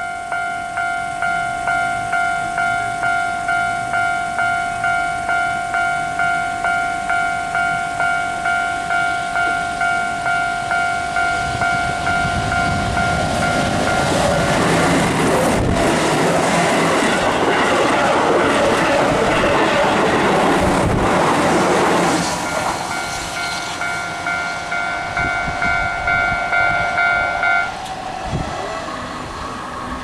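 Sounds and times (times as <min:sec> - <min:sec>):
level-crossing warning bell ringing: 0:00.0 - 0:29.2
train wheels rushing on rails: 0:00.0 - 0:30.0.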